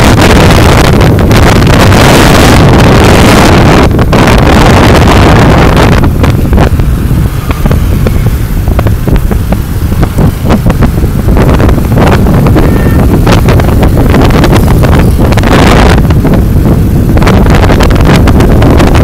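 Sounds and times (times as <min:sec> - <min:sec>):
motorbike engine rumble: 0:00.0 - 0:19.0
traffic: 0:00.0 - 0:19.0
wind buffeting microphone: 0:00.0 - 0:19.0.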